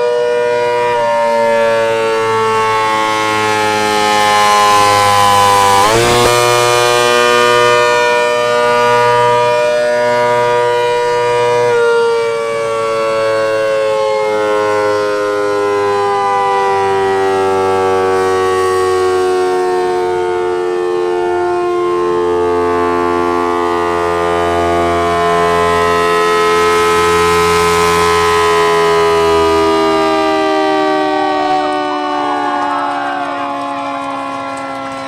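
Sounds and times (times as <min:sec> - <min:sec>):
siren with falling pitch: 0:00.0 - 0:35.0.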